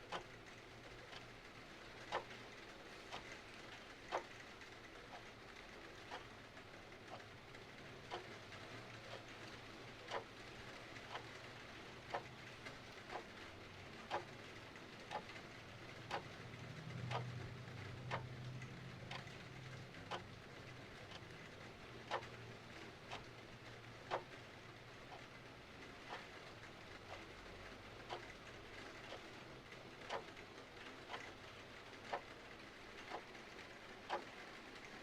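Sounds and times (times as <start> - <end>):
clock ticking: 0.0 - 35.0.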